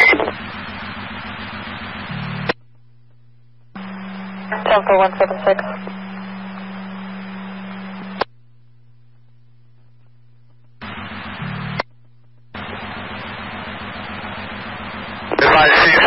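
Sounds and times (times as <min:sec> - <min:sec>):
radio static hiss: 0:00.0 - 0:02.6, 0:03.8 - 0:08.3, 0:09.7 - 0:16.0
low steady hum: 0:00.0 - 0:16.0.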